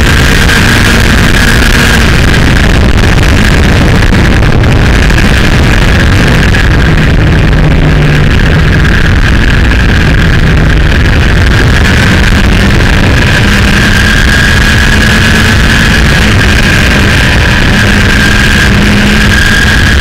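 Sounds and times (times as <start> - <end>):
motorcycle engine at speed: 0.0 - 20.0
wind rumble on microphone: 0.0 - 20.0.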